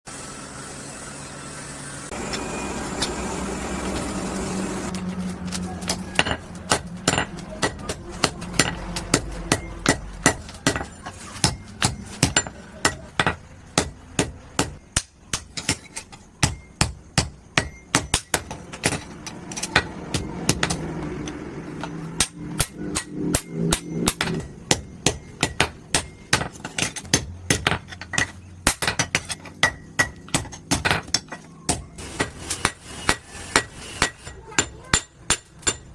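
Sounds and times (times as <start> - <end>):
hammer striking steel on anvil: 5.9 - 35.9.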